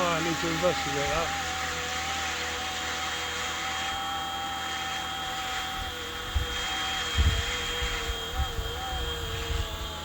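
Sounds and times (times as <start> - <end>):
rc helicopter rotors humming: 0.0 - 10.0.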